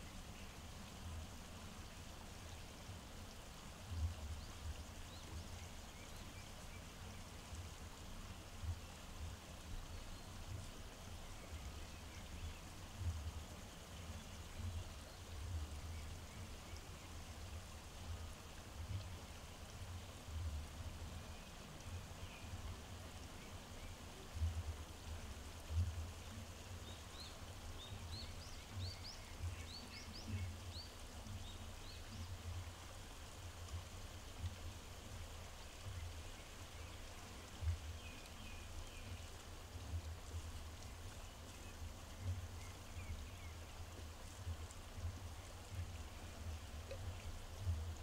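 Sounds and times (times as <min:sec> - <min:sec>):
steady outdoor hiss: 0:00.0 - 0:48.0.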